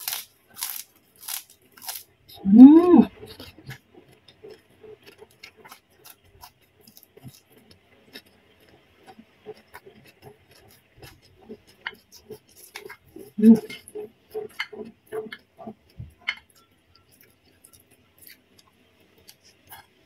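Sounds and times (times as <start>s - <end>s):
soft chewing: 0.1s - 20.0s.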